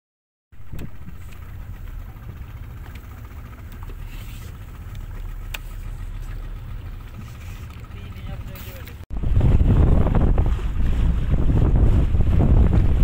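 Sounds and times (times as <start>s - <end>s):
boat motor droning: 0.6s - 13.0s.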